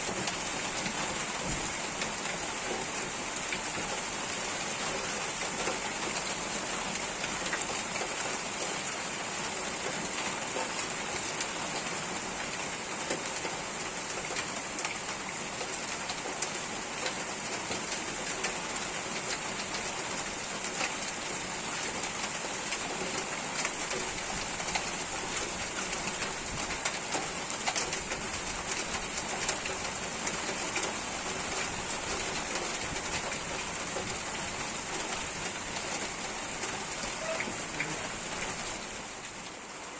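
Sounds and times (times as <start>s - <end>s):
raindrops ticking: 0.0s - 8.8s, 12.4s - 39.7s
steady rain pattering: 0.0s - 39.9s.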